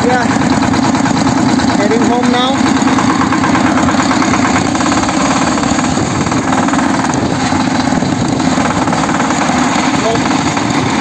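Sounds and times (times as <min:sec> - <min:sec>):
diesel tiller engine running: 0:00.0 - 0:11.0.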